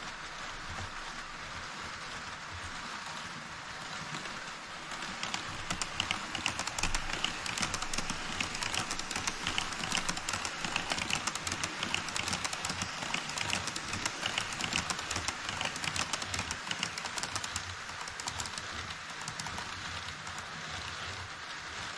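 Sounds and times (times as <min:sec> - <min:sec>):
model train wheels clattering: 0:00.0 - 0:21.9.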